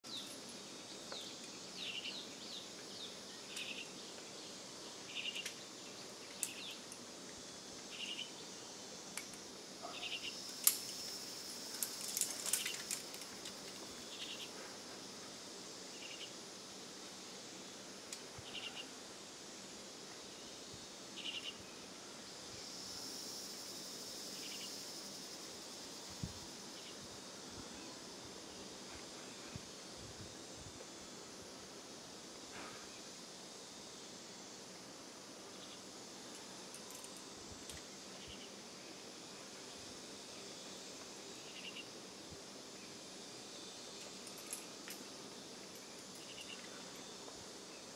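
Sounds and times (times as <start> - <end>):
steady high hiss: 0.0 - 47.9.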